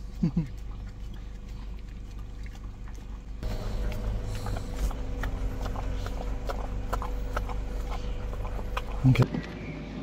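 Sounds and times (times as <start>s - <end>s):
dog lapping ice cream: 0.0s - 9.2s
steady low hum: 0.0s - 9.2s.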